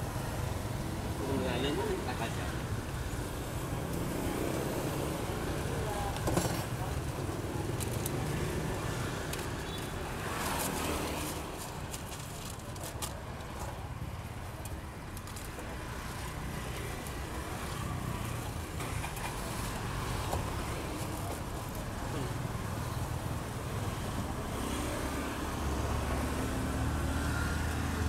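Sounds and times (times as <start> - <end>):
motorbikes passing: 0.0 - 28.0
street traffic: 0.0 - 28.0.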